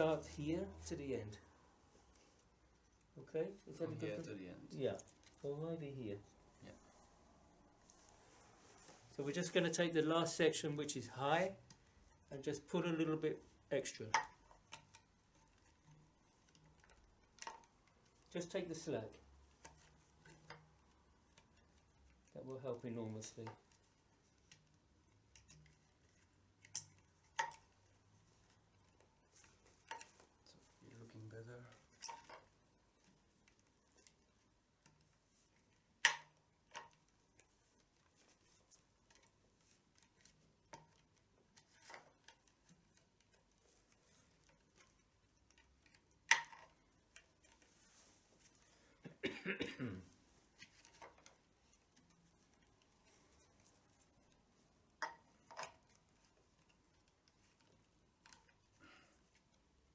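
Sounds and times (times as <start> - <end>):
strap handling ticks: 8.8 - 49.0, 50.1 - 59.9.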